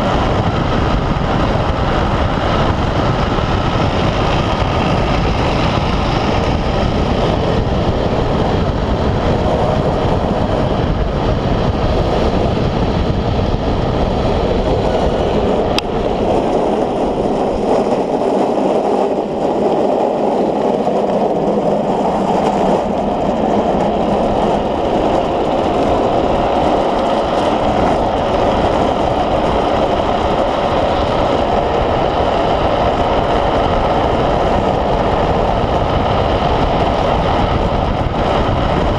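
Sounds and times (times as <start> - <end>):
wheels rolling on asphalt: 0.0 - 38.9
wind rushing: 0.0 - 38.9.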